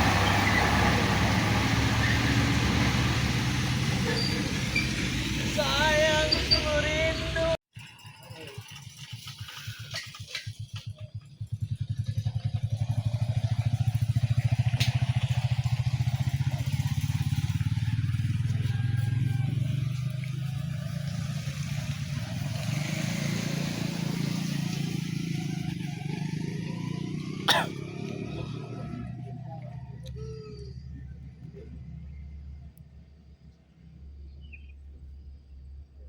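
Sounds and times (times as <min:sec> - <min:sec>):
vehicle engine pulsing: 0:00.0 - 0:36.0.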